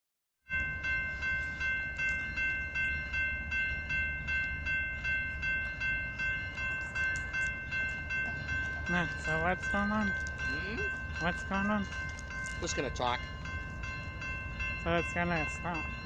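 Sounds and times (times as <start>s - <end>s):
railroad crossing bell ringing: 0.4s - 16.0s.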